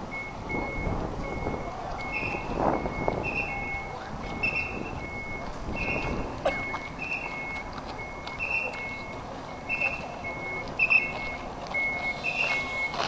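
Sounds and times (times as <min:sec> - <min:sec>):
two-tone reversing alarm beeps: 0:00.1 - 0:13.0.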